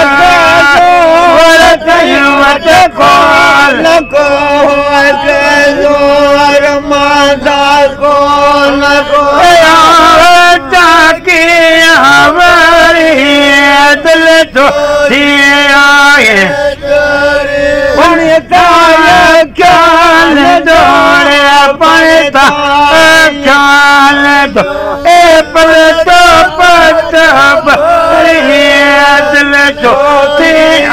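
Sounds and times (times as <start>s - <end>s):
men singing unaccompanied: 0.0s - 30.9s.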